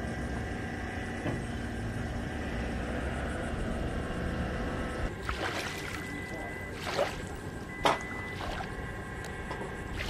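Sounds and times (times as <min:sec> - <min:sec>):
boat diesel engines rumbling: 0:00.0 - 0:10.0.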